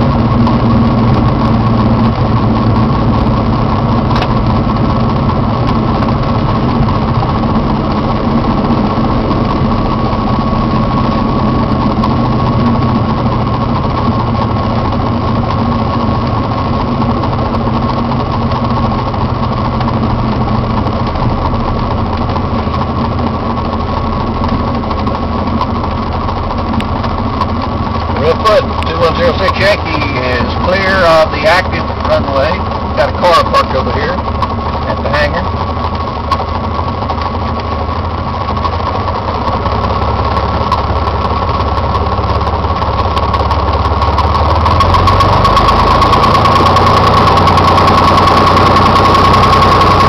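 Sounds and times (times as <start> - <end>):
high whine: 0.0 - 50.0
small airplane engine idling: 0.0 - 50.0.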